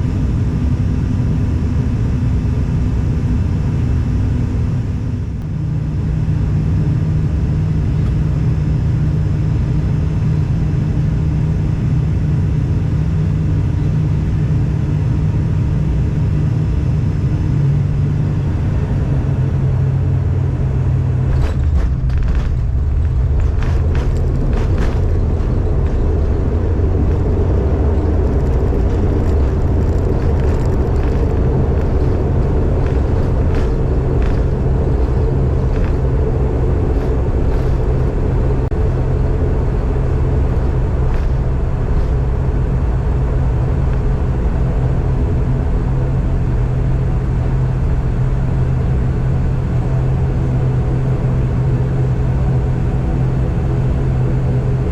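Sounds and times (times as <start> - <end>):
heavy low rumble: 0.0 - 54.9
turboprop engines droning: 0.0 - 54.9.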